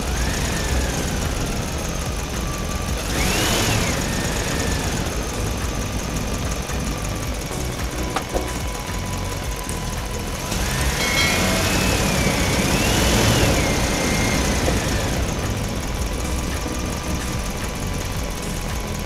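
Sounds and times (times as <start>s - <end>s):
high whistle: 0.0s - 19.0s
model truck engine idling: 0.0s - 19.0s.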